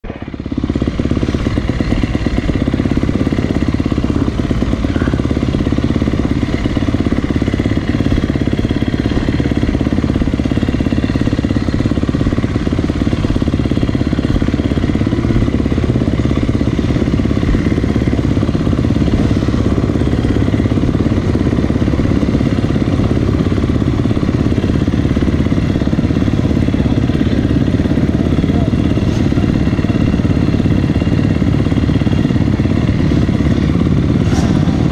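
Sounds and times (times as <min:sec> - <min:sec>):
motorbike engine running: 0:00.0 - 0:34.9.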